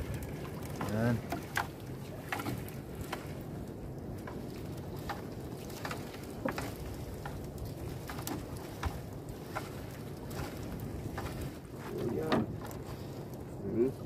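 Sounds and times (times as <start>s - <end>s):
wind and water noise: 0.0s - 14.0s.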